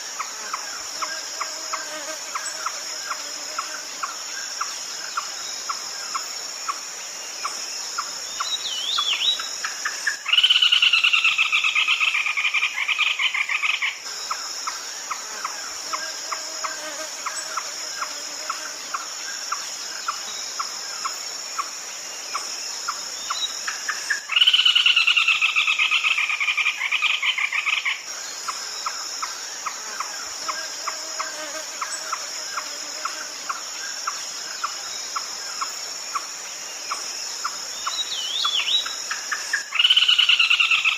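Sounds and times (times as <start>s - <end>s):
high insect drone: 0.0s - 40.9s.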